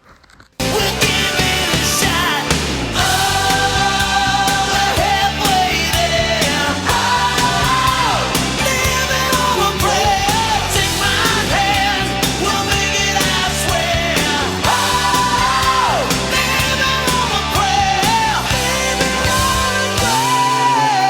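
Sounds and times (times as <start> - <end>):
rock song with singing: 0.6 - 21.0.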